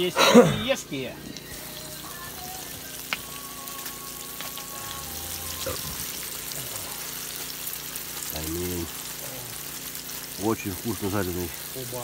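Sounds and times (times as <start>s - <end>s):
fish sizzling in oil: 0.9s - 12.0s.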